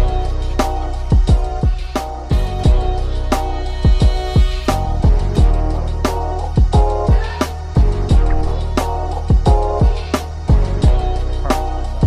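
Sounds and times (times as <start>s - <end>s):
hip-hop music with steady beat: 0.0s - 12.0s.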